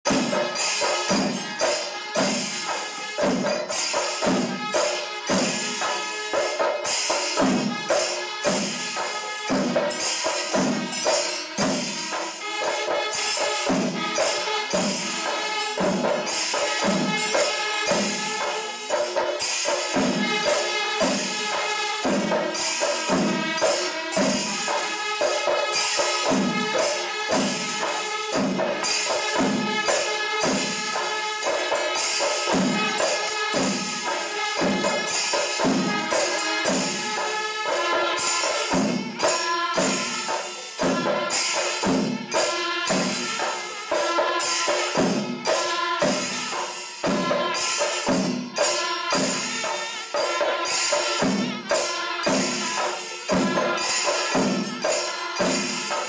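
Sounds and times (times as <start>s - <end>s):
cymbals clashing: 0.0s - 56.0s
drums beating steady rhythm: 0.0s - 56.0s.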